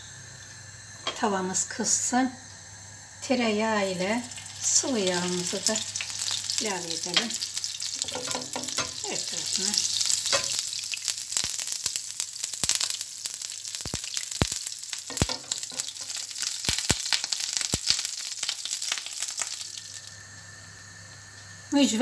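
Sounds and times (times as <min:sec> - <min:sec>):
butter sizzling in a frying pan: 0:00.6 - 0:22.0.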